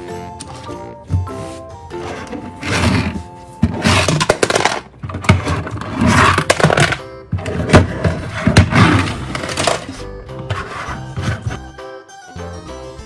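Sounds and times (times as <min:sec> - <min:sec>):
hard objects clattering and scraping: 0:00.4 - 0:11.7.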